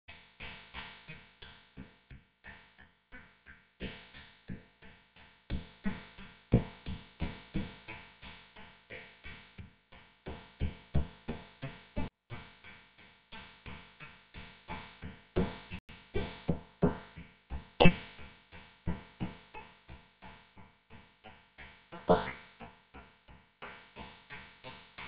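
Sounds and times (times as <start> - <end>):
music with steady beat: 0.1 - 25.0.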